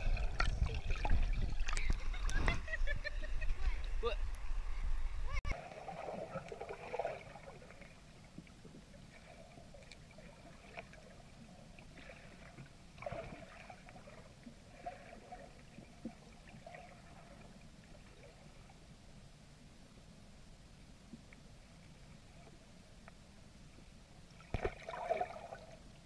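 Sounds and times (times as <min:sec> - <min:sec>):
underwater river rumble: 0:00.0 - 0:26.0.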